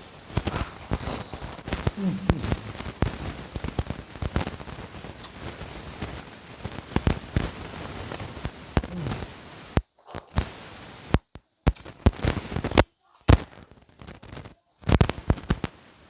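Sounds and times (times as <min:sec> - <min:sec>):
microphone crackling and popping: 0:00.0 - 0:15.8.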